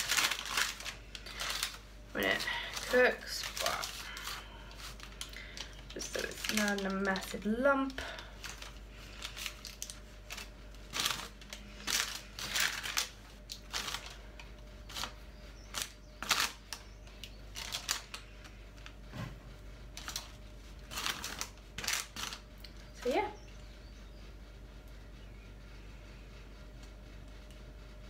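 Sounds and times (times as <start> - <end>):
baking paper rustling: 0.0 - 23.4.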